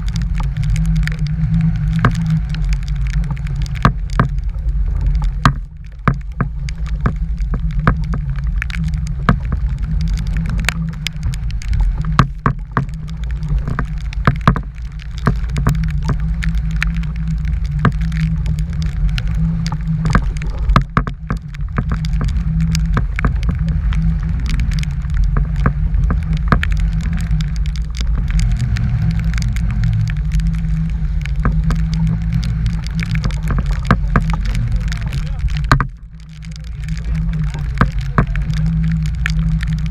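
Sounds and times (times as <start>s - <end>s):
sharp ticks and knocks: 0.0s - 39.9s
wind buffeting microphone: 0.0s - 39.9s.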